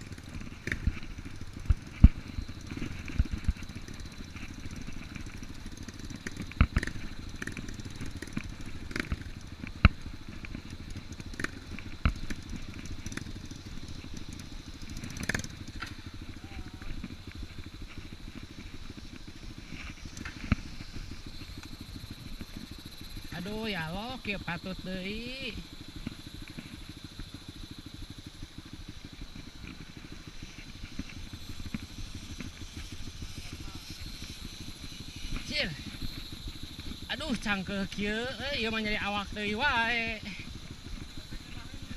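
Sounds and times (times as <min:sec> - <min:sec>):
motorcycle engine at low revs: 0:00.0 - 0:41.9.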